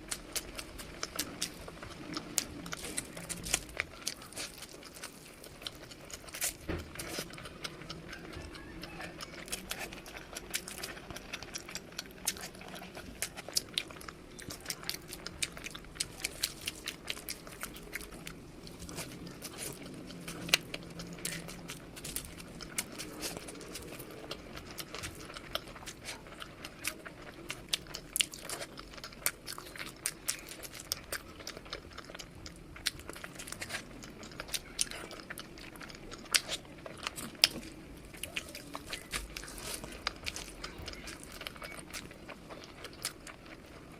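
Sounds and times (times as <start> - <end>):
crunchy bites and chewing: 0.0 - 43.9.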